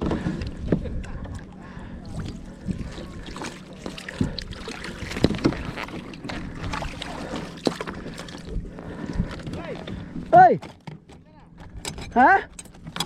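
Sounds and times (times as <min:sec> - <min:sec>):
gear knocking against kayak hull: 0:02.1 - 0:13.0.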